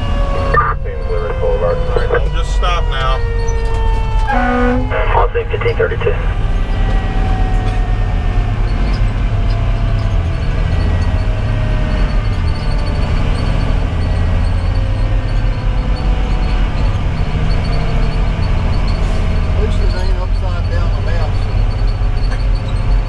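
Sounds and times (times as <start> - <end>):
diesel engine running: 0.0 - 23.0
road noise: 0.0 - 23.0.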